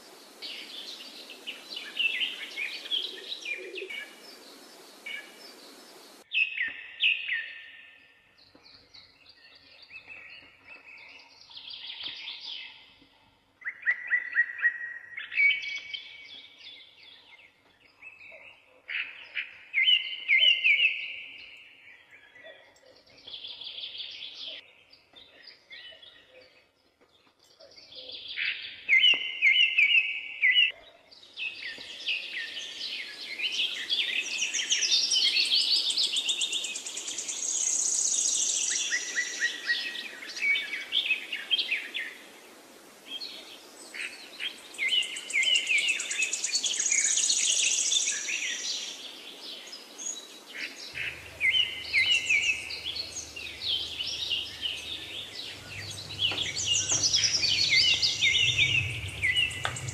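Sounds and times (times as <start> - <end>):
songbirds chirping and singing: 0.4 - 42.3, 43.2 - 59.9.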